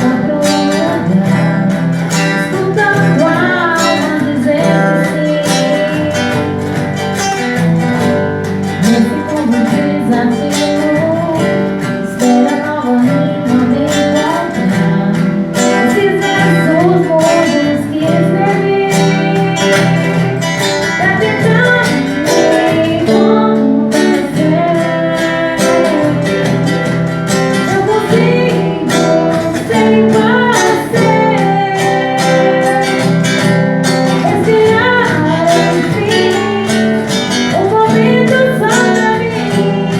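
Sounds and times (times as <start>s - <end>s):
person singing: 0.0s - 7.4s, 8.4s - 39.9s
guitar with steady beat: 0.0s - 39.9s.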